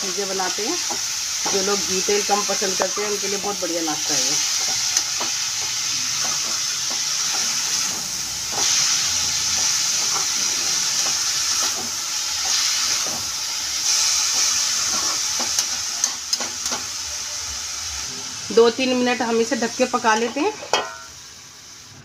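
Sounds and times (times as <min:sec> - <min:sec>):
potatoes sizzling in pan: 0:00.0 - 0:22.0.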